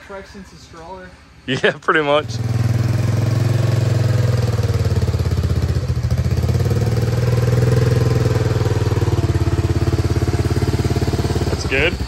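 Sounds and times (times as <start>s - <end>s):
engine puttering at low throttle: 2.2s - 12.0s.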